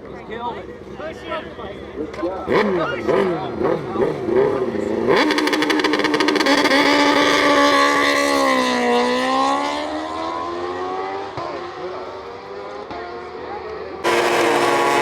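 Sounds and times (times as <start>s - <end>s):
racing motorcycle passing at speed: 2.0s - 15.0s.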